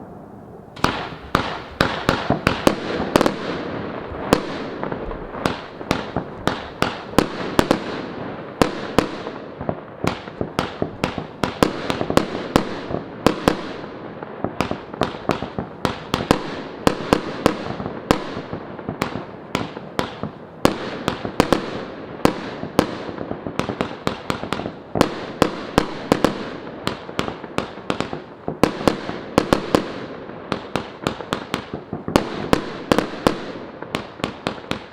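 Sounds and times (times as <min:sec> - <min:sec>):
fireworks hiss and crackle: 0:00.0 - 0:34.9
fireworks bangs and bursts: 0:00.7 - 0:34.9.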